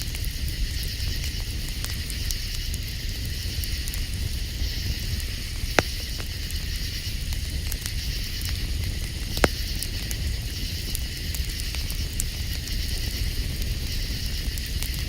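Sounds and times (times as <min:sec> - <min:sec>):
campfire crackling and popping: 0:00.0 - 0:15.0
high steady hiss: 0:00.0 - 0:15.0.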